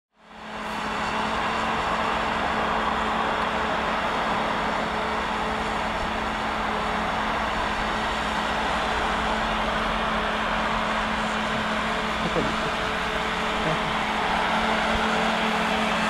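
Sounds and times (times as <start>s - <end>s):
tractor diesel engine droning: 0.1s - 16.0s.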